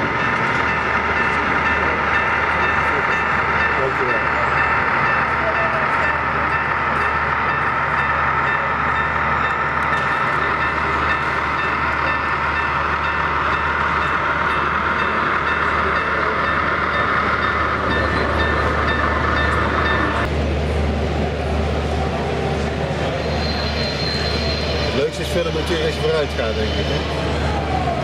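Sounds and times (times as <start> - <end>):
train rumbling along: 0.0 - 28.0.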